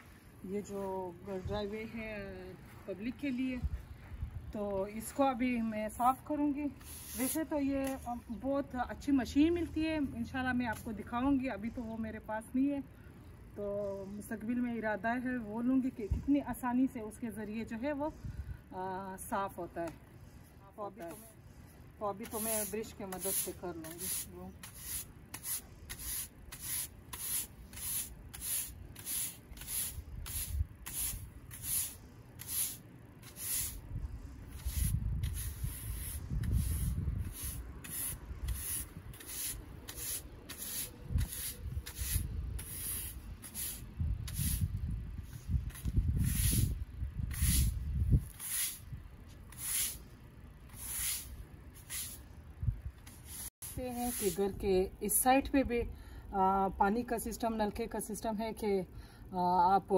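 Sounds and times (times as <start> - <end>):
broom sweeping on concrete: 0.0 - 12.0, 13.6 - 54.7.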